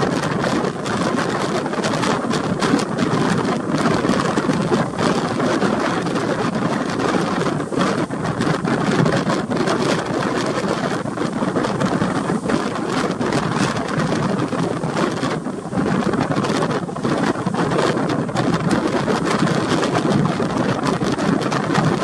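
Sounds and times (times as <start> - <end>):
rushing wind and sea: 0.0 - 22.0
wind buffeting microphone: 0.0 - 22.0.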